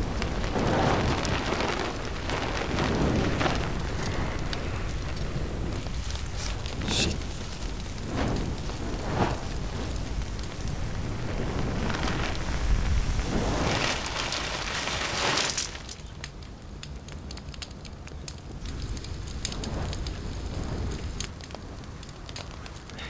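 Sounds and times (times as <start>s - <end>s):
flames rushing and crackling: 0.0s - 23.0s.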